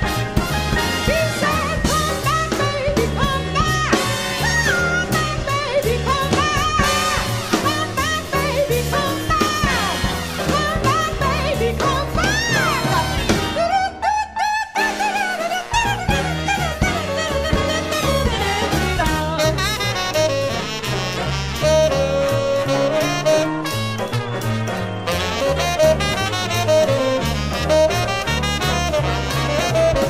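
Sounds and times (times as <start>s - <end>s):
big band playing swing: 0.0s - 30.0s
woman singing jazz: 0.7s - 23.7s, 25.2s - 30.0s.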